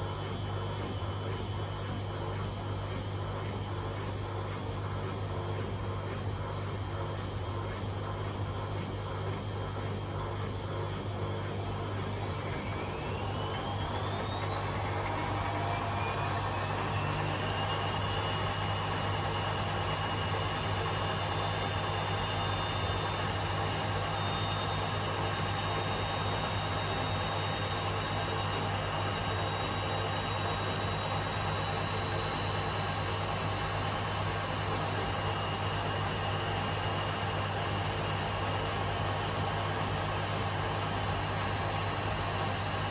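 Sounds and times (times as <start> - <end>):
washing machine drums humming: 0.0 - 42.9
washing machine motor whine: 0.0 - 42.9.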